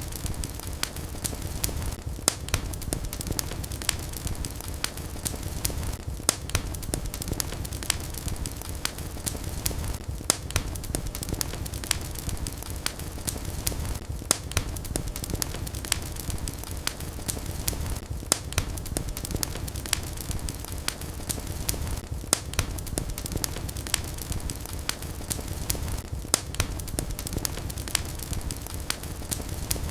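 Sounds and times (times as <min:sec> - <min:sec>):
fire crackling and popping: 0:00.0 - 0:29.9
fire flames rumbling: 0:00.0 - 0:29.9.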